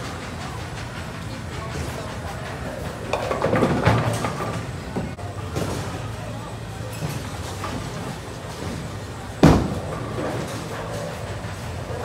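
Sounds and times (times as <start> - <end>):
bowling alley rumble: 0.0 - 12.0.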